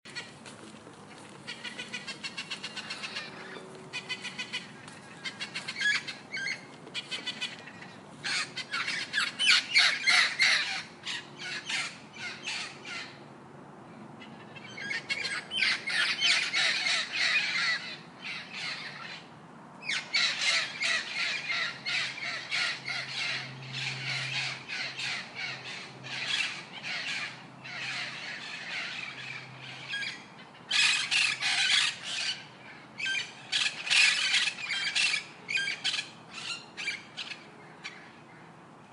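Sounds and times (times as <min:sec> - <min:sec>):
parrot screeching and squawking: 0:01.5 - 0:13.1, 0:14.6 - 0:19.2, 0:19.9 - 0:37.4.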